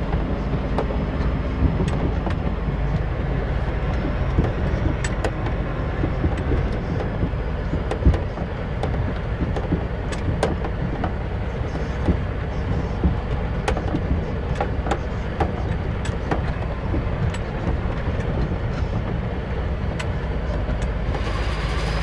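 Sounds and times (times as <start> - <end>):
clicks and knocks from cab: 0.0 - 3.1, 3.7 - 22.0
truck engine running: 0.0 - 22.0.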